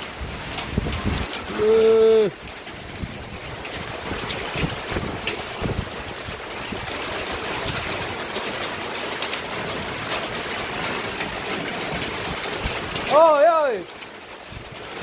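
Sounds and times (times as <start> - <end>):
hailstones ticking: 0.0 - 15.0
heavy rain: 0.0 - 15.0.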